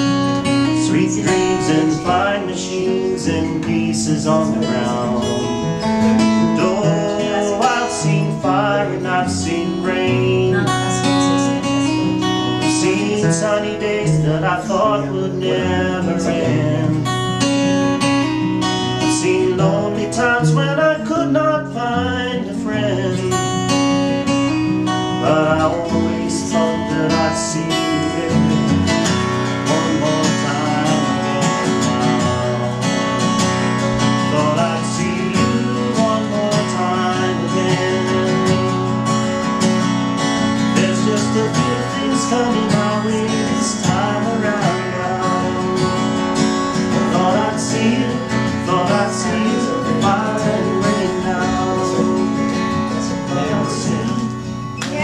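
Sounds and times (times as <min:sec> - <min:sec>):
acoustic guitar strummed and picked: 0:00.0 - 0:55.0.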